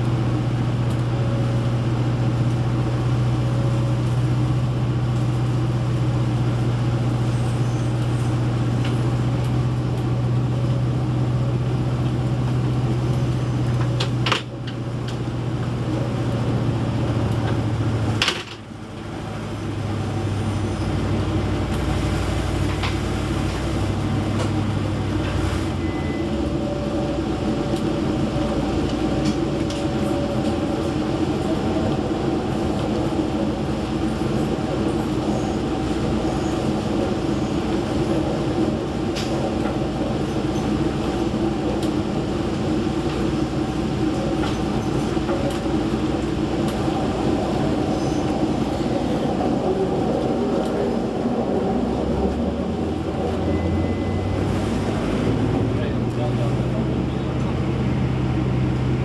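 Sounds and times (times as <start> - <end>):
train rumbling from inside carriage: 0.0 - 59.0.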